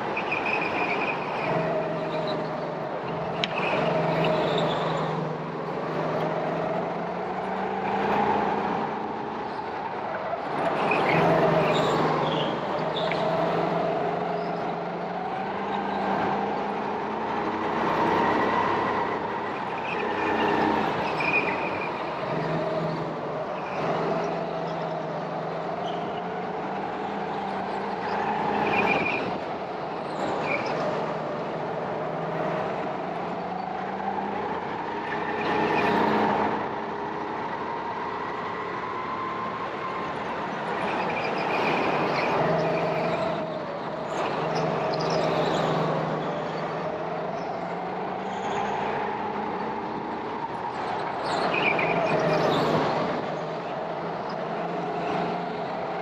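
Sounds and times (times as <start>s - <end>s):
go-kart engine revving: 0.0s - 38.0s, 39.5s - 56.0s.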